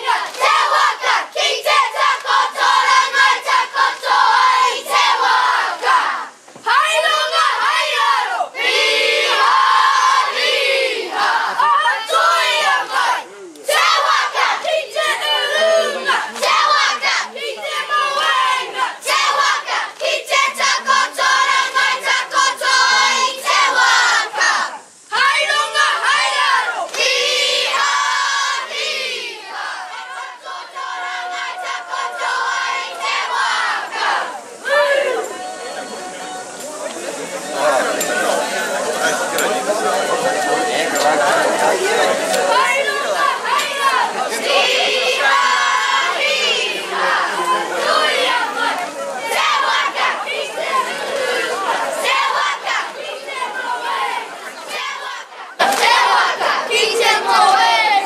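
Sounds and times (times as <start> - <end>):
girls chanting in unison: 0.0 - 35.1, 41.9 - 58.0.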